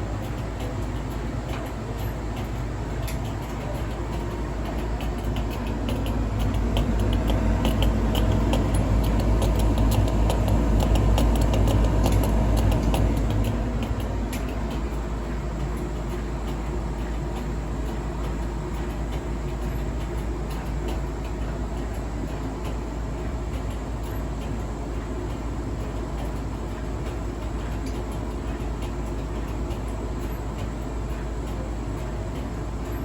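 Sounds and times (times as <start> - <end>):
appliance humming: 0.0 - 33.0.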